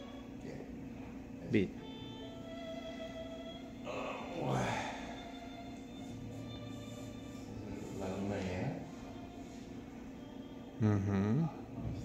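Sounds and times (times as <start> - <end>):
music from a television: 0.0 - 1.2, 1.8 - 10.8, 11.4 - 12.0.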